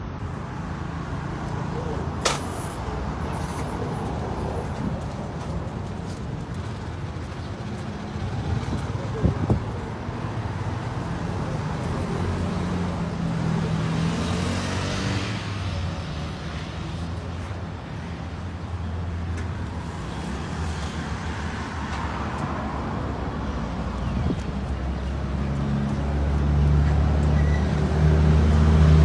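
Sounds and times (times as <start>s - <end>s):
vehicles passing by: 0.0s - 29.0s.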